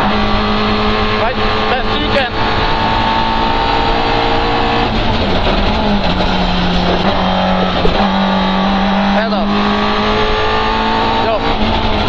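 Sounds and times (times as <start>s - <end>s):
car engine running hard: 0.0s - 12.0s
road and wind noise: 0.0s - 12.0s.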